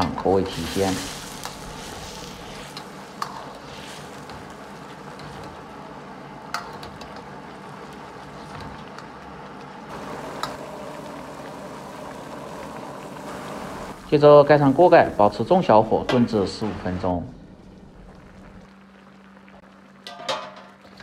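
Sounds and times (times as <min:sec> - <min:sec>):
sauce bubbling in a wok: 0:00.6 - 0:15.7, 0:17.3 - 0:20.1.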